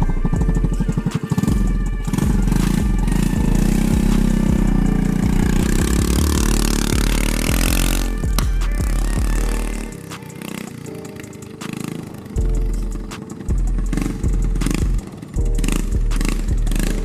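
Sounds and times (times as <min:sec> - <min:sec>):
motorcycle engine popping: 0:00.0 - 0:17.0.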